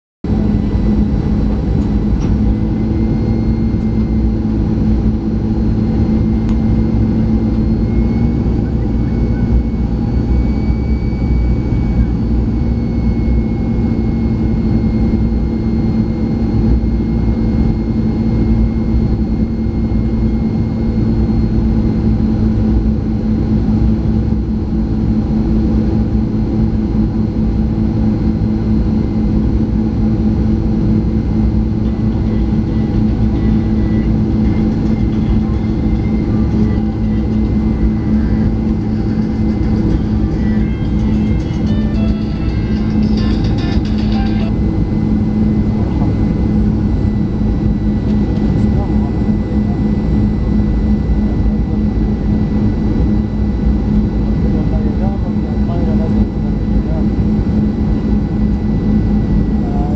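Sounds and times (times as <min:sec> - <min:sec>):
airplane cabin drone: 0:00.2 - 0:59.9
faint high whine: 0:00.3 - 0:59.9.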